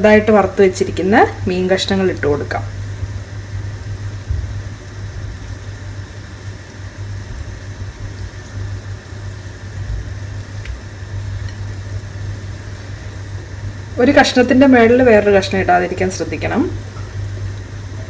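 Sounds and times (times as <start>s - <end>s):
gravy simmering in a wok: 0.0s - 18.0s
steady low hum: 0.0s - 18.0s.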